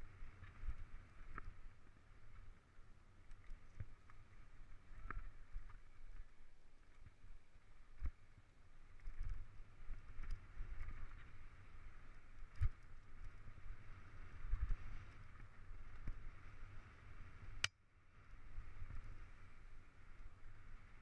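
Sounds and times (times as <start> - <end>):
wind and riding rumble: 0.0 - 21.0.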